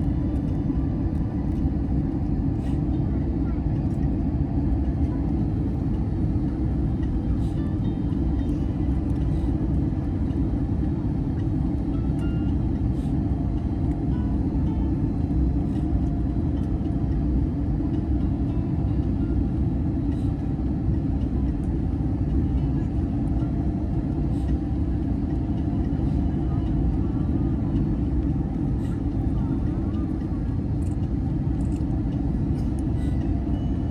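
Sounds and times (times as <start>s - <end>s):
aircraft cabin engine rumble: 0.0s - 33.9s.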